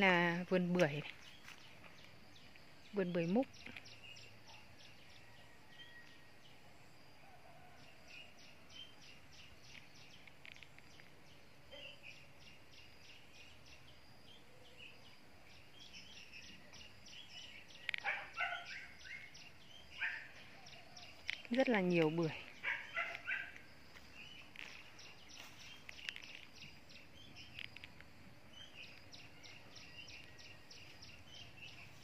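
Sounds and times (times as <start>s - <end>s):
small birds chirping: 0.0s - 6.7s, 7.6s - 32.0s
soft outdoor background: 0.0s - 32.0s.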